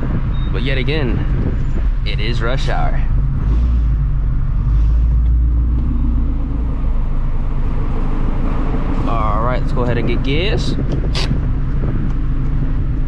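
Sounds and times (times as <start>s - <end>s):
deep car exhaust rumble: 0.0s - 13.0s.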